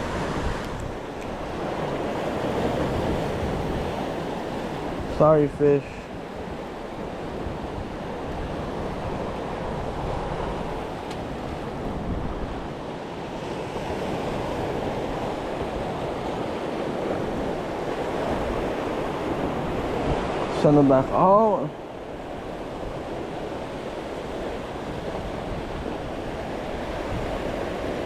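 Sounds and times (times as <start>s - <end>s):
ocean waves washing on shore: 0.0s - 28.0s
wind on microphone: 0.0s - 28.0s.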